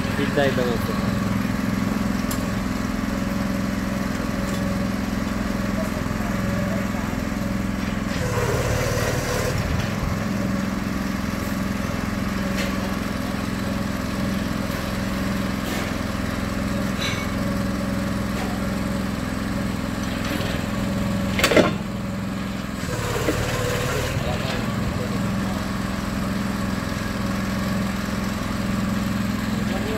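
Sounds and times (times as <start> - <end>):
small diesel engine running: 0.0 - 29.9.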